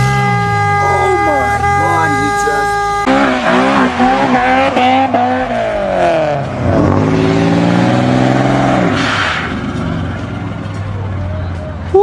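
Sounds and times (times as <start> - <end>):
car engine revving hard: 0.1 - 10.2.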